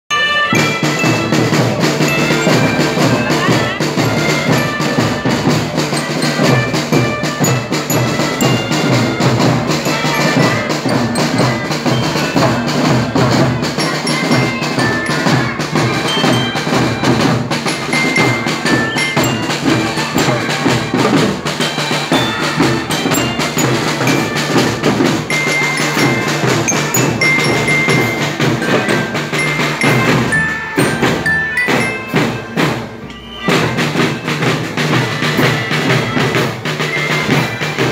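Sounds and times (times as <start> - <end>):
glockenspiel melody: 0.1 - 37.9
snare and bass drums: 0.2 - 37.9.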